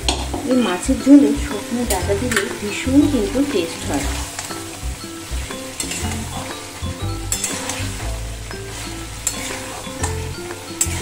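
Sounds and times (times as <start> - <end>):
background music with bass: 0.0 - 11.0
vegetables sizzling in oil: 0.0 - 11.0.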